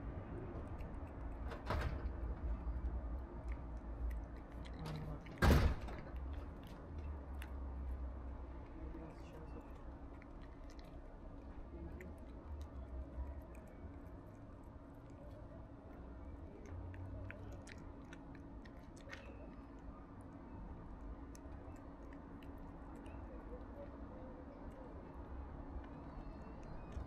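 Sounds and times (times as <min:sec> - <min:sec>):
cat chewing wet food: 0:00.0 - 0:27.0
low steady rumble: 0:00.0 - 0:27.0.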